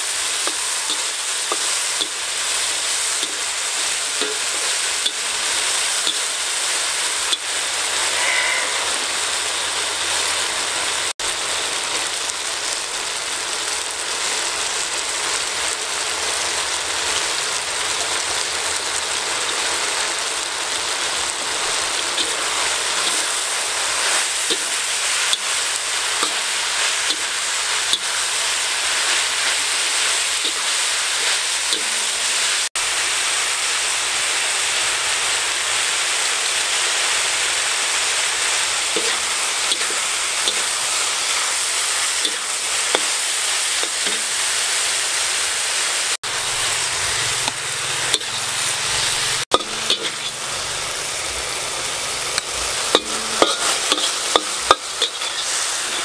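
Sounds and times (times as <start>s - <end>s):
meat and beans sizzling in a wok: 0.0s - 56.0s.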